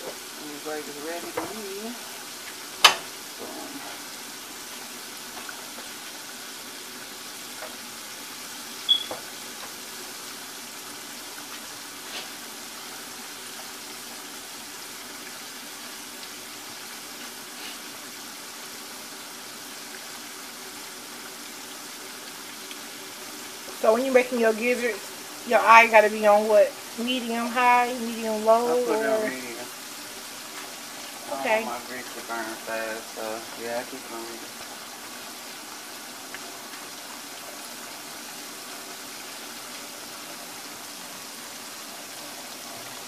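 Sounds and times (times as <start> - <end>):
oil bubbling and sizzling: 0.0 - 43.0.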